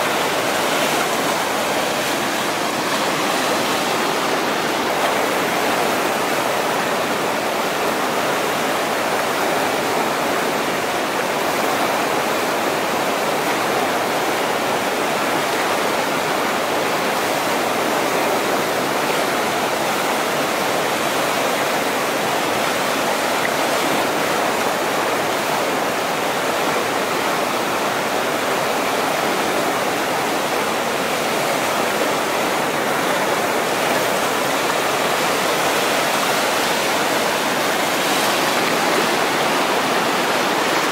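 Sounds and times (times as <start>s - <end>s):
whitewater rapids rushing: 0.0s - 40.9s.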